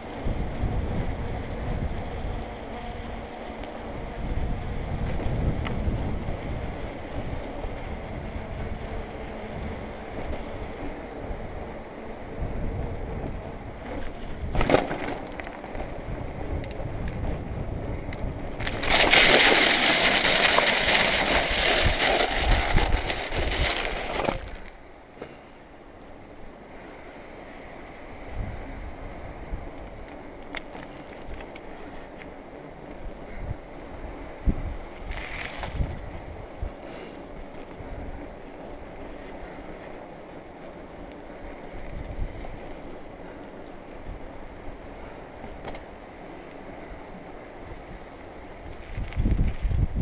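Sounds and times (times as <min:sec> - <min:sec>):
wind buffeting microphone: 0:00.0 - 0:14.9, 0:15.5 - 0:25.0, 0:26.1 - 0:50.0
bike rolling on concrete: 0:00.0 - 0:50.0.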